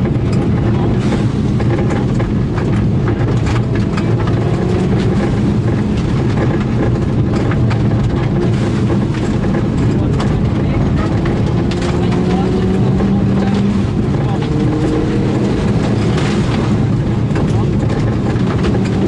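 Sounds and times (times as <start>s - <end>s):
rally car engine running hard: 0.0s - 19.0s.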